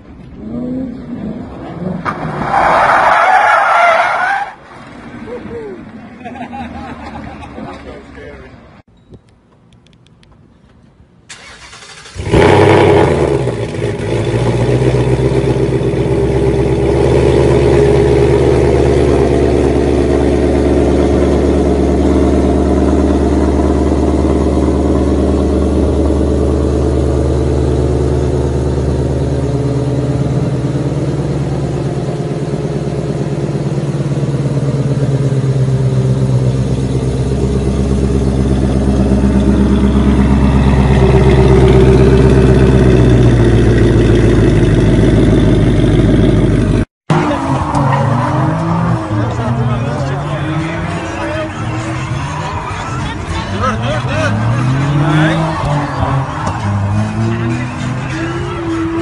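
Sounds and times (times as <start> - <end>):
car engine idling: 11.3 - 59.0.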